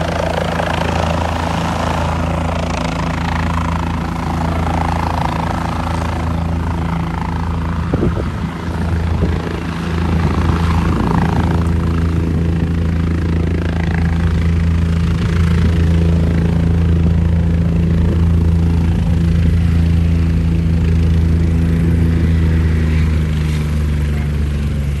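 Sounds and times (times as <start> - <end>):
helicopter rotor drone: 0.0 - 25.0.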